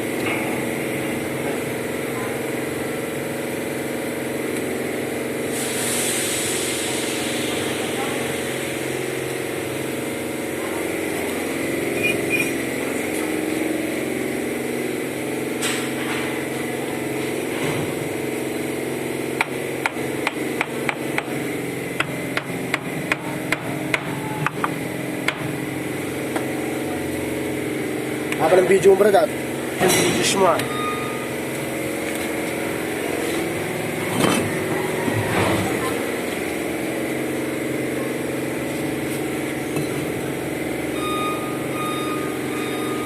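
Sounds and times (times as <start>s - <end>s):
steady motor hum: 0.0s - 43.0s.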